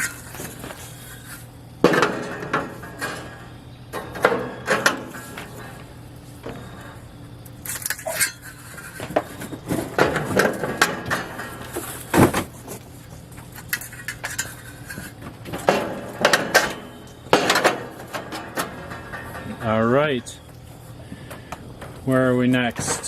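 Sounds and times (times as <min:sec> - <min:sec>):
metal grill parts clanking: 0:00.0 - 0:23.0.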